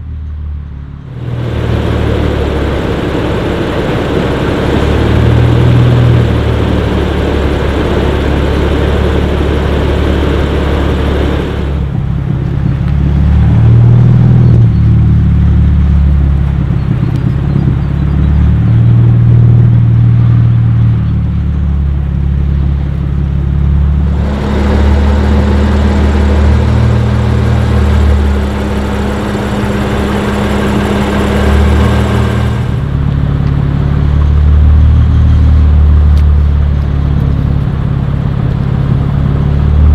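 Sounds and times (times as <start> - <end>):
car engine revving: 0.7 - 39.9.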